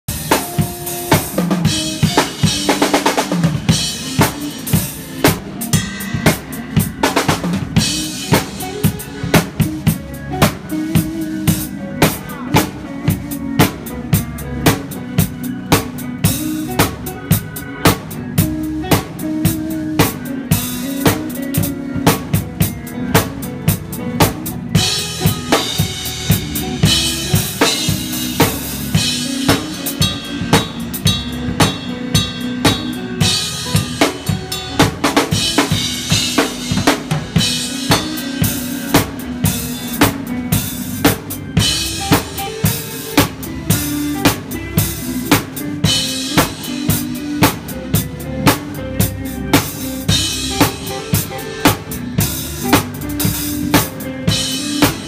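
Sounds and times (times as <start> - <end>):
acoustic drum kit playing: 0.1 - 55.0
held pitched instrument notes: 0.1 - 55.0.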